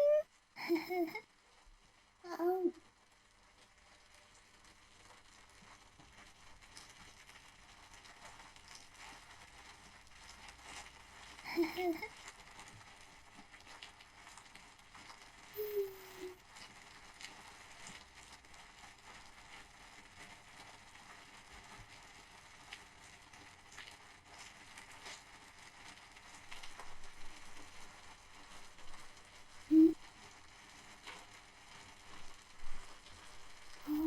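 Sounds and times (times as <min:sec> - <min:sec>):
crackling and rustling: 0:00.3 - 0:34.0.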